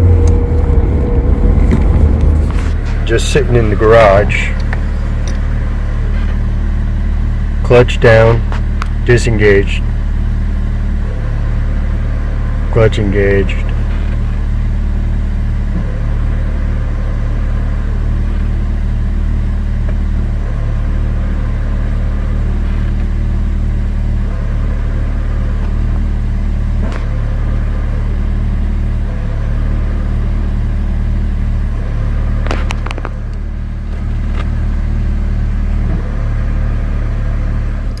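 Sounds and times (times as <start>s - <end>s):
pickup engine idling: 0.0s - 38.0s.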